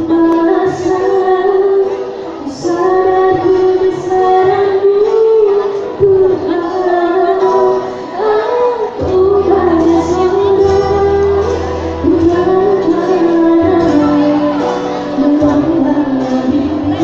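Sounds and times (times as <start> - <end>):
backing track: 0.0 - 17.0
woman singing into microphone: 0.0 - 17.0.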